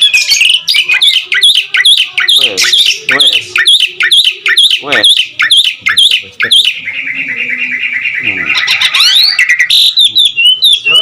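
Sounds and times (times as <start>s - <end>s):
bird whistling: 0.0s - 11.0s
starling chirps and rattle: 0.0s - 11.0s.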